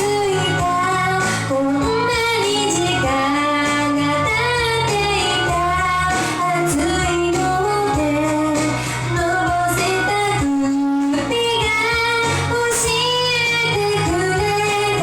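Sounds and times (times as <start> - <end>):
instrumental backing: 0.0 - 15.0
young female voice singing: 0.0 - 15.0.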